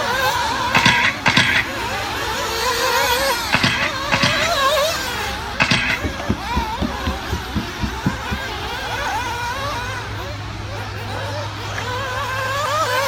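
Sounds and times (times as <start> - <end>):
small two-stroke engines running: 0.0 - 13.0.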